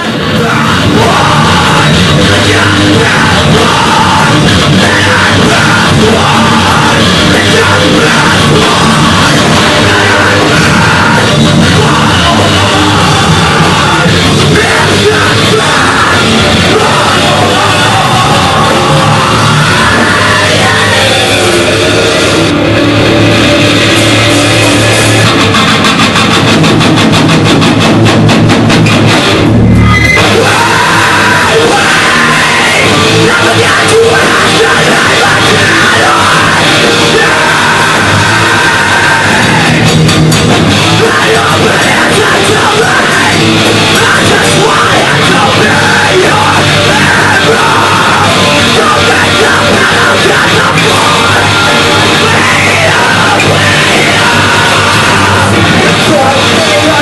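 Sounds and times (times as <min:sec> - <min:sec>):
bass guitar: 0:00.0 - 0:57.0
distorted electric guitars: 0:00.0 - 0:57.0
drum kit: 0:00.0 - 0:57.0.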